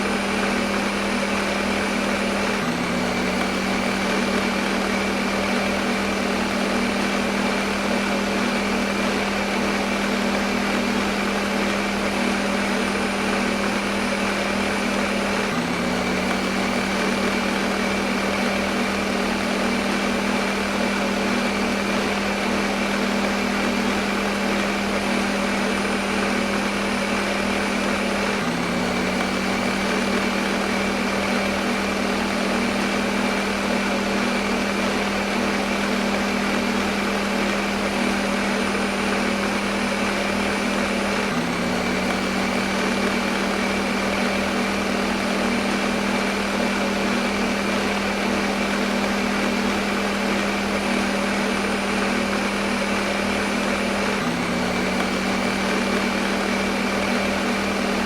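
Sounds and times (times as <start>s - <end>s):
kitchen blender running: 0.0s - 58.0s.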